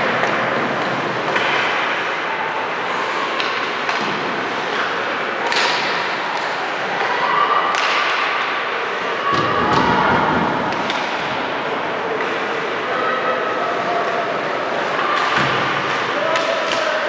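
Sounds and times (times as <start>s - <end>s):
players and spectators noise: 0.0s - 17.0s.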